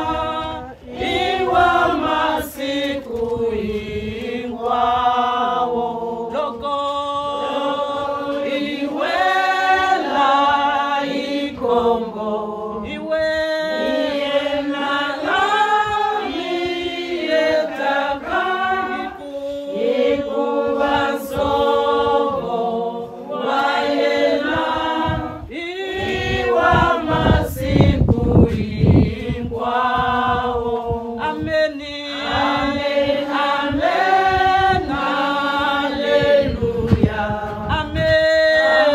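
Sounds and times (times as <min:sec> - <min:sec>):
women singing unaccompanied: 0:00.0 - 0:38.9.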